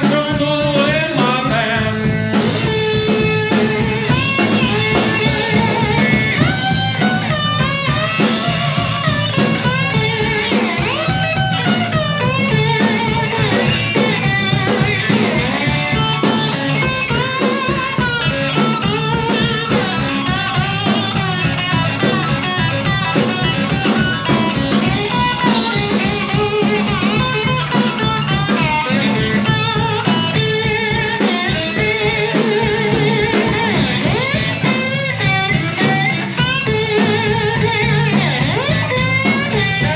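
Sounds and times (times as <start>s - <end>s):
bass guitar: 0.0s - 39.9s
drum kit: 0.0s - 39.9s
electric slide guitar: 0.0s - 39.9s.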